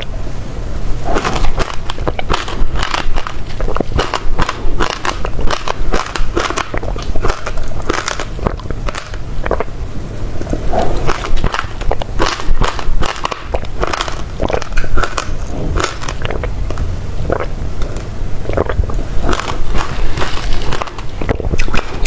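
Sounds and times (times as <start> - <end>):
crunching fruit seeds: 1.0 - 9.7, 10.4 - 22.0
wet mouth sounds: 1.0 - 9.8, 10.4 - 22.0.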